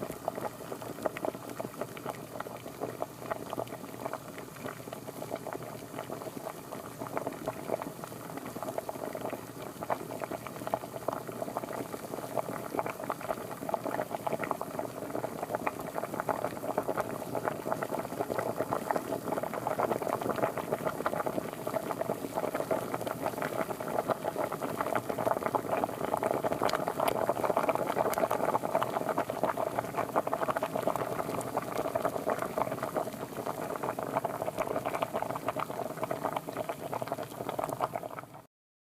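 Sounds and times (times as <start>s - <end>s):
water boiling: 0.0s - 38.5s.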